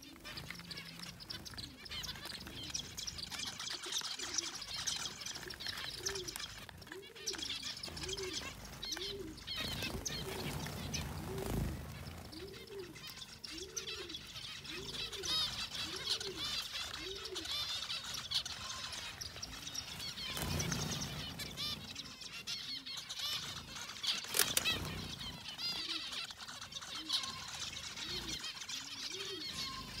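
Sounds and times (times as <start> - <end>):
finches chirping: 0.0 - 30.0.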